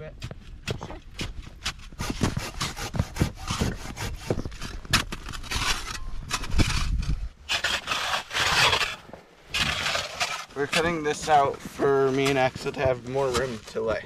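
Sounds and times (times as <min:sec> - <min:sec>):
scraping and brushing of snow: 0:01.8 - 0:14.0.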